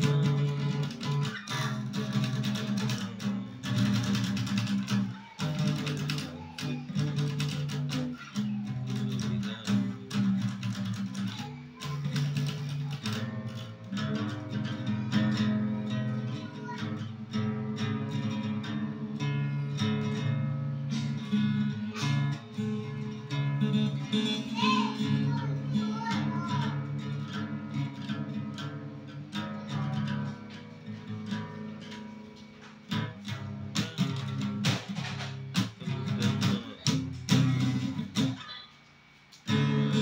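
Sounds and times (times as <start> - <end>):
acoustic guitar strumming and picking: 0.0 - 40.0.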